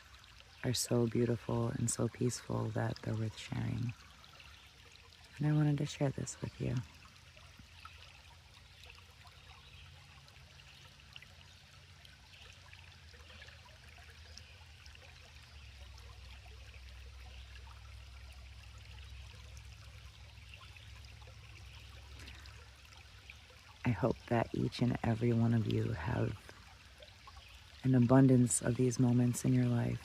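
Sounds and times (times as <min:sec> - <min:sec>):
creek trickling and babbling: 0:00.0 - 0:30.0.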